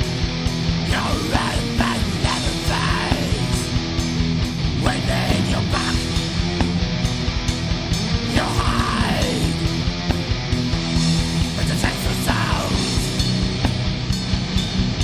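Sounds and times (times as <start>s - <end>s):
heavy metal band playing: 0.0s - 15.0s.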